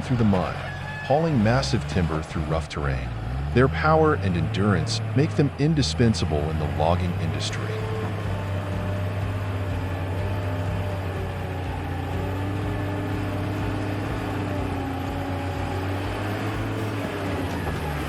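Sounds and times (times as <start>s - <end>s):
log skidder engine drone: 0.0s - 18.0s.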